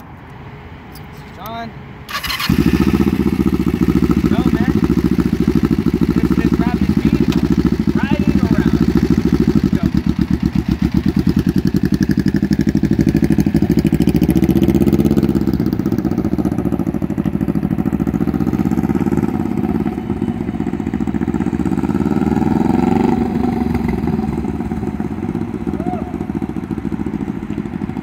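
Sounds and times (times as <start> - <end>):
motorcycle engine: 2.1 - 28.0.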